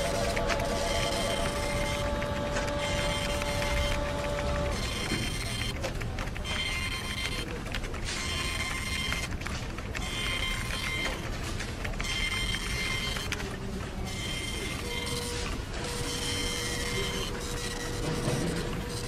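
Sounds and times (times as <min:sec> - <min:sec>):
office printer whining: 0:00.0 - 0:19.0.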